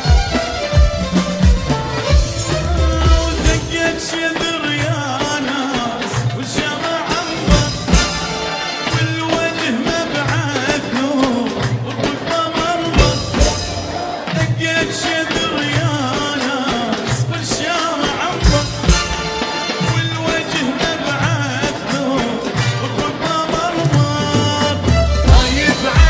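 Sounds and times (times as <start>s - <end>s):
drum beat: 0.0s - 26.0s
hand-drum strokes: 0.0s - 26.0s.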